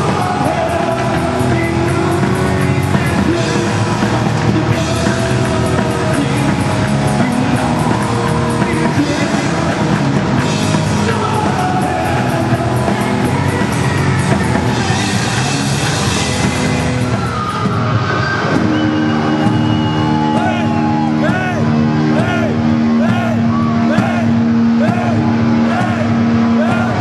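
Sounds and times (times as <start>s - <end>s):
heavy metal rock music: 0.0s - 27.0s.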